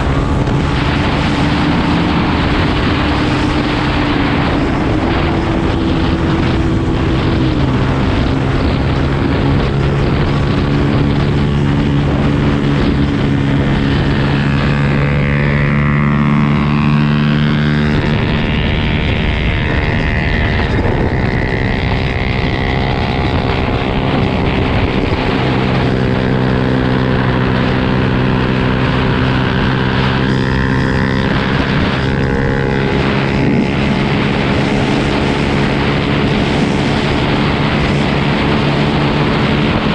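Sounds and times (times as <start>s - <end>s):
motocross bike engine running: 0.0s - 39.9s.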